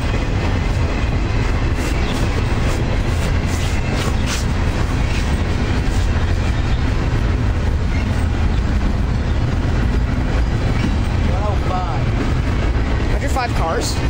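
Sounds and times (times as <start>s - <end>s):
rail joint clicks: 0.0s - 14.0s
train wheels rumbling on rails: 0.0s - 14.0s.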